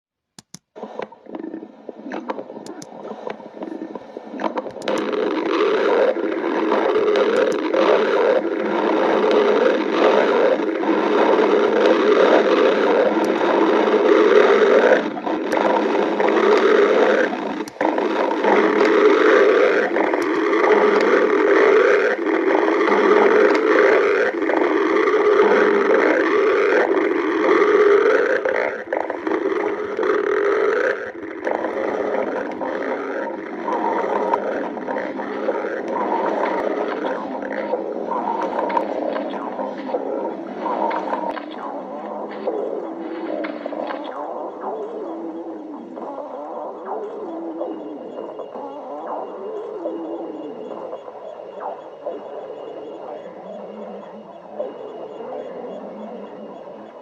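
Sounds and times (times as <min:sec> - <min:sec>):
stomach growling and gurgling: 0:00.7 - 0:57.0.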